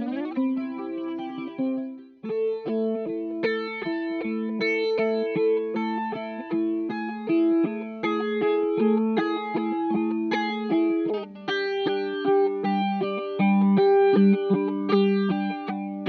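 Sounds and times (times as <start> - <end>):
electric guitar with flanger: 0.0 - 16.0.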